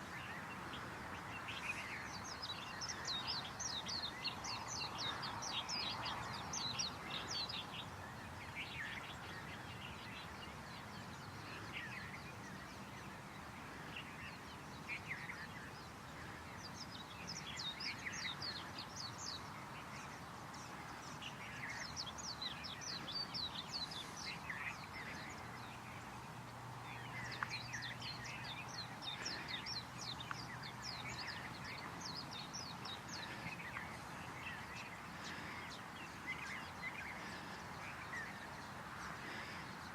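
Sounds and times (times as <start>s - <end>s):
background hiss: 0.0s - 39.9s
wild birds chattering: 0.0s - 39.9s.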